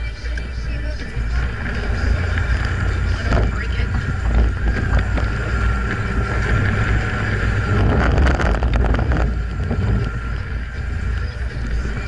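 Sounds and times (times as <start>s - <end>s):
car engine running: 0.0s - 12.0s
wind buffeting microphone: 0.0s - 12.0s.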